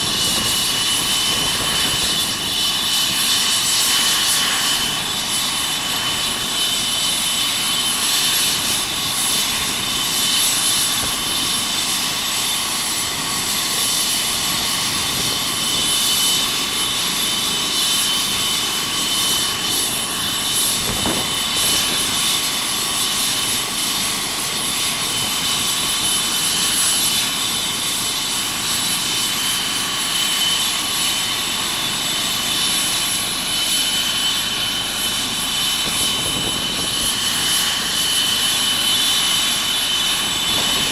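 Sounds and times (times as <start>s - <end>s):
helicopter rotor and engine: 0.0s - 40.9s
helicopter turbine whine: 0.0s - 40.9s.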